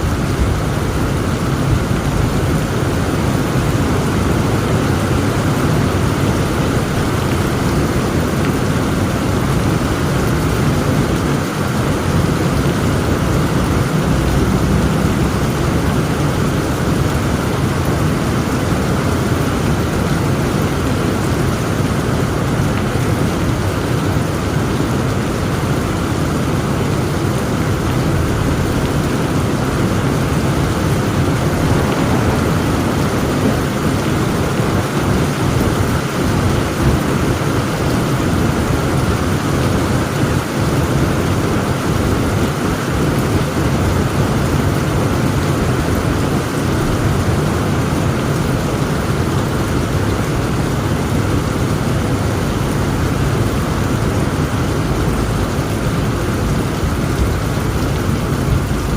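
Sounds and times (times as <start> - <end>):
rumble of thunder: 0.0 - 20.2, 27.8 - 51.1, 53.1 - 58.9
heavy rain: 0.0 - 58.9.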